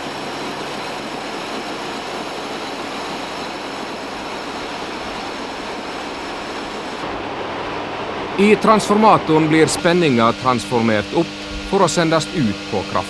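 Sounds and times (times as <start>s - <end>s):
faint low generator hum: 0.0s - 13.0s
water turbine rushing: 0.0s - 13.0s.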